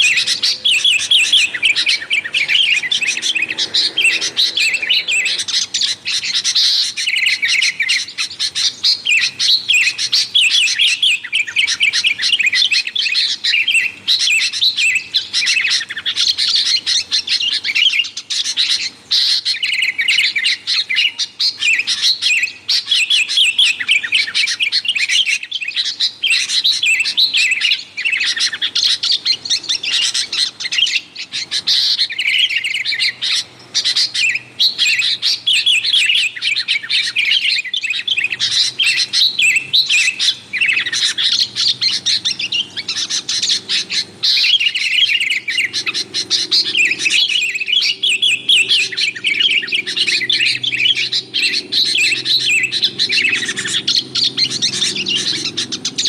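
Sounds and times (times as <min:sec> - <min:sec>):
birds chattering calls: 0:00.0 - 0:56.0.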